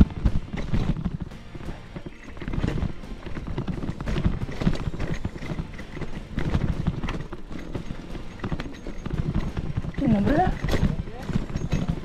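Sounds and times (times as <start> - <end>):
bike clattering over stones: 0.0 - 12.0.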